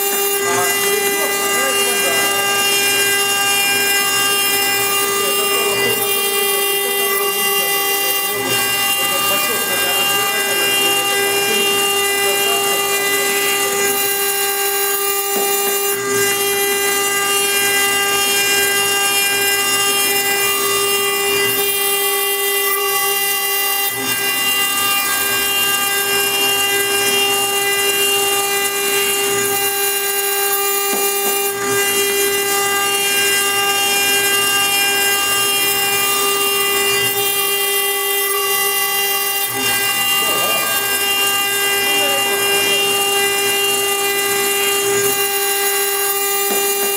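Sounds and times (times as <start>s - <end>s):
grinding hiss: 0.0s - 15.8s, 16.8s - 46.9s
router spindle whine: 0.0s - 46.9s.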